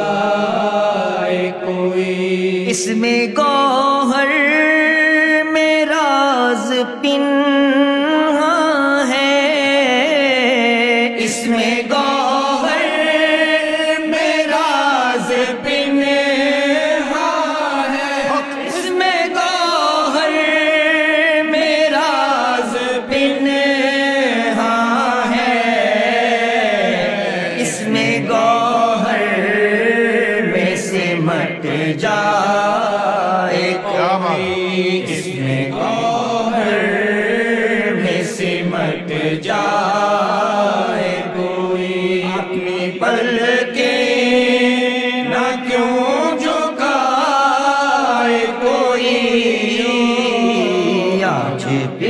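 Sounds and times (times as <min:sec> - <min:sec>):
man singing devotional song: 0:00.0 - 0:52.0.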